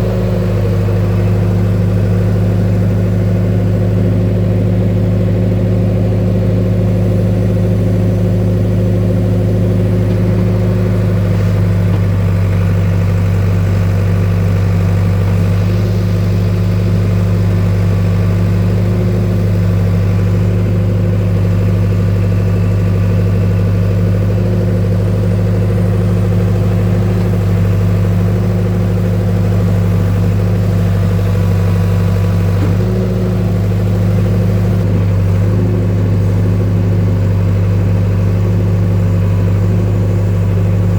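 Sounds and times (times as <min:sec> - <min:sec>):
backhoe engine running: 0:00.0 - 0:40.9.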